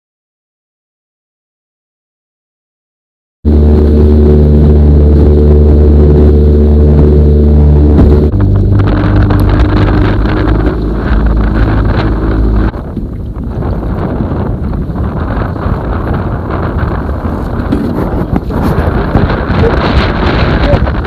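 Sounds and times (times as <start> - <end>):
boat motor running: 3.5 - 21.0
wind on microphone: 3.5 - 21.0.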